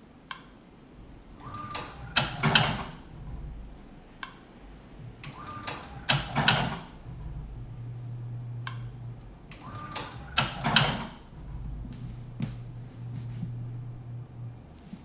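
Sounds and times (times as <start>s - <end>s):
embroidery machine low hum: 0.0s - 15.0s.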